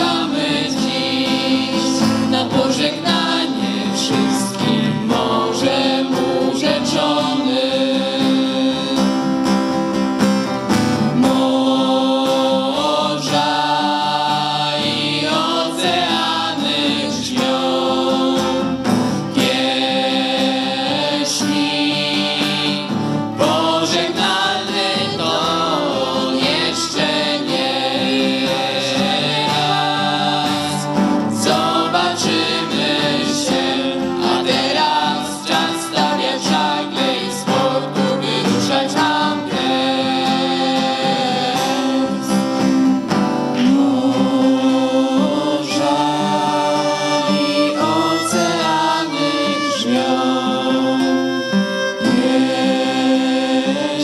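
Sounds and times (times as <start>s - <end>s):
acoustic guitar: 0.0s - 54.0s
violin: 0.0s - 54.0s
voices singing together: 0.0s - 54.0s.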